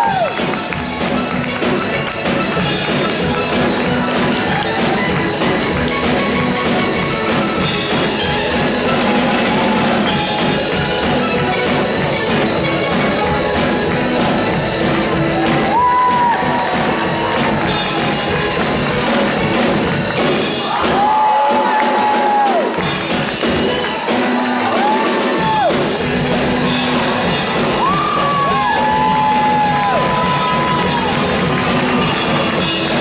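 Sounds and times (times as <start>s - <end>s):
steel band music with drum kit: 0.0s - 33.0s.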